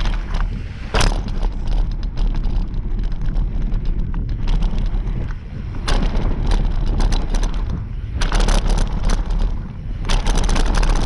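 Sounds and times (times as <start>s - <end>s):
bike rattling and clicking: 0.0s - 11.0s
tyres on dirt: 0.0s - 11.0s
wind buffeting microphone: 0.0s - 11.0s.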